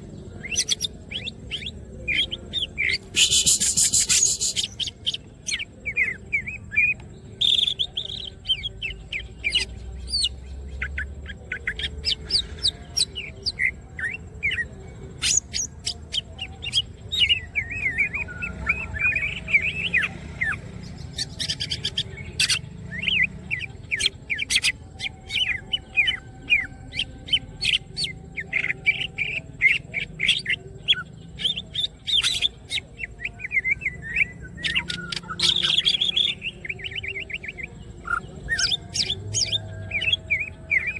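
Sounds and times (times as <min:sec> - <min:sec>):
bird singing rapid chirps: 0:00.0 - 0:40.9.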